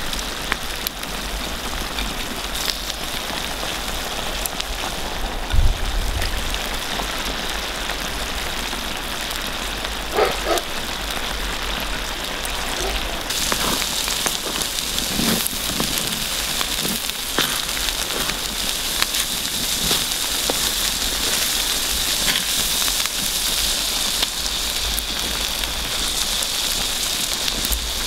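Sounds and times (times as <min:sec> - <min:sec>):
food sizzling in a pan: 0:00.0 - 0:28.0
wood fire crackling: 0:00.0 - 0:28.0.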